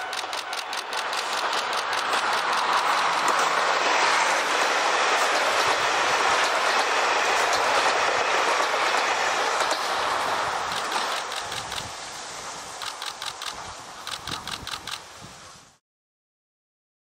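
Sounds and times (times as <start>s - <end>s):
train passing at speed: 0.0s - 15.8s.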